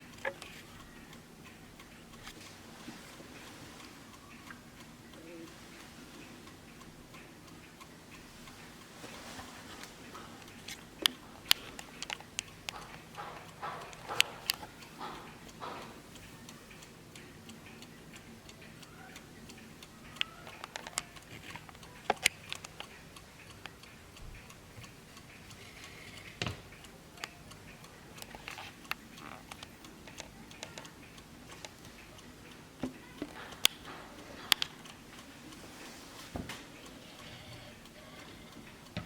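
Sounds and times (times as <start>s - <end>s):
sharp clicks: 0.0s - 2.6s, 3.4s - 35.6s, 36.2s - 39.0s
mantel clock ticking: 0.0s - 39.0s.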